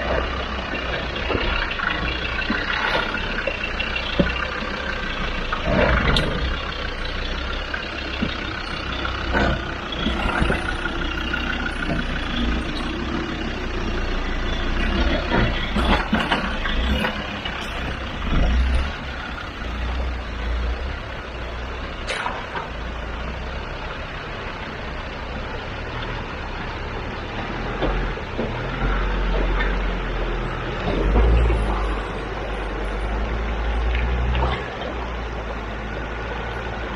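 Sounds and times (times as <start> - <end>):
diesel engine low rumble: 0.0 - 36.9.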